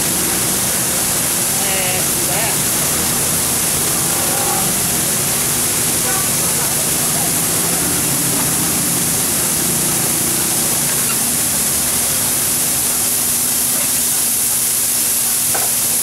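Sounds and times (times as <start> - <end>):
bean sprouts sizzling on griddle: 0.0 - 16.0.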